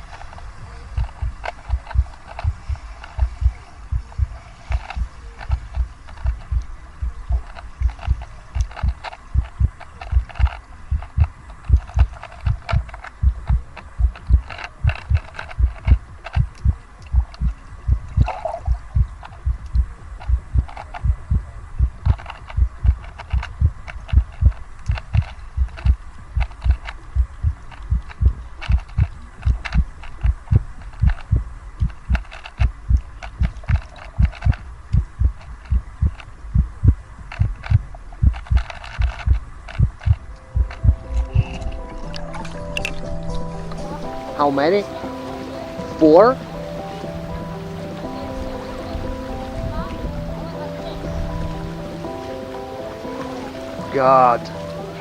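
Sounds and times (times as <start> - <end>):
fast heartbeat thumps: 0.0 - 44.4
faint clicking and rattling: 0.0 - 55.0.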